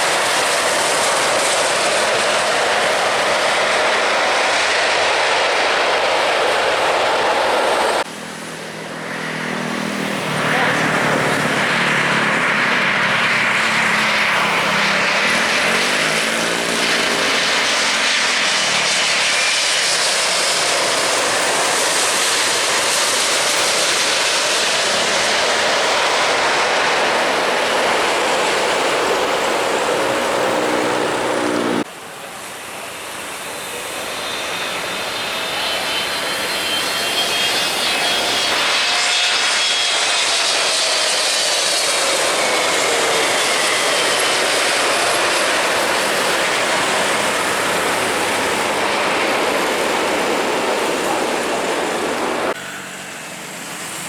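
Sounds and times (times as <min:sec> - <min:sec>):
airliner engines rushing: 0:00.0 - 0:54.0
high engine whine: 0:00.0 - 0:54.0.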